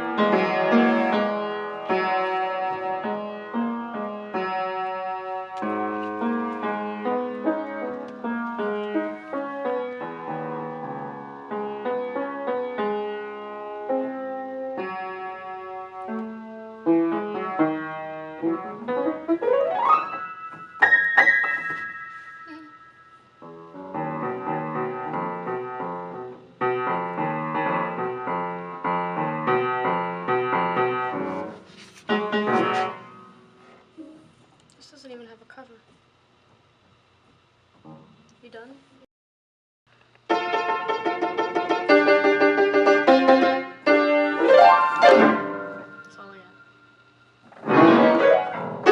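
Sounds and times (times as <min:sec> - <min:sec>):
piano keyboard playing: 0:00.0 - 0:33.6, 0:40.3 - 0:48.9.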